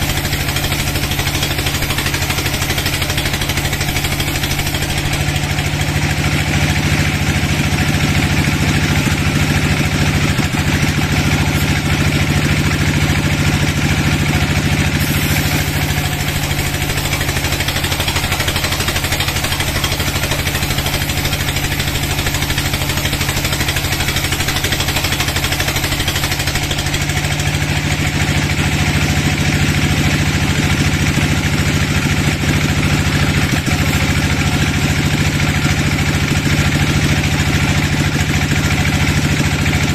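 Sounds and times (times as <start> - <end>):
band saw cutting a log: 0.0 - 37.6.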